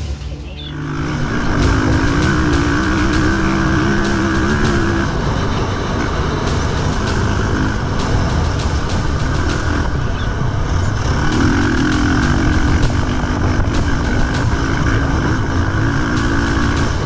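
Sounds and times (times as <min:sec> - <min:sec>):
dirt bike engine running: 0:00.0 - 0:17.0
high ticking: 0:00.5 - 0:17.0.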